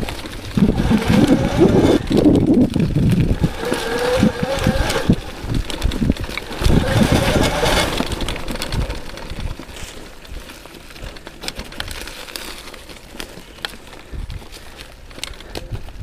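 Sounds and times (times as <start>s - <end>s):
clicks and rattles: 0.0s - 16.0s
tyres crunching on dirt: 0.0s - 16.0s.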